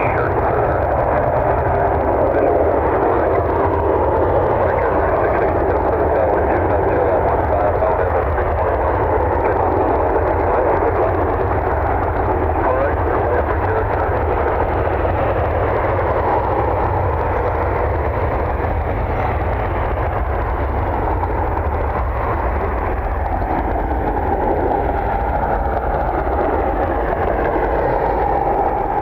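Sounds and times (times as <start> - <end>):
jet engine rumble and roar: 0.0 - 29.0
jet engine whine: 0.0 - 29.0.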